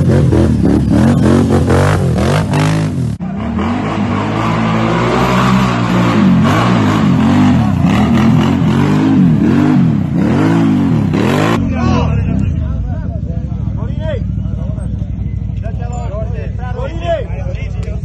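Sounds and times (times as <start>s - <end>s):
quad bike engines revving: 0.0s - 18.0s.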